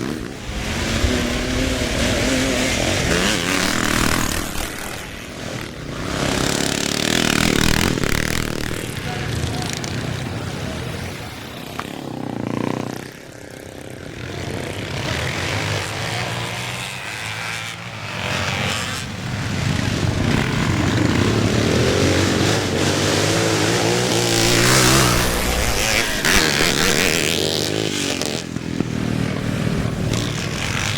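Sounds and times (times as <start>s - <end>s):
motocross bikes revving: 0.0s - 30.9s.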